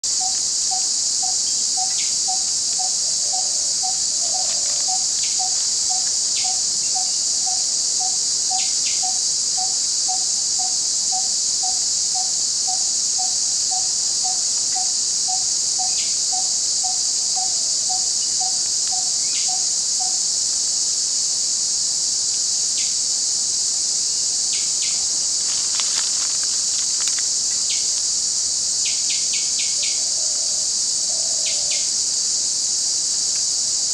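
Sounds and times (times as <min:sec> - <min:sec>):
insect chorus: 0:00.0 - 0:33.9.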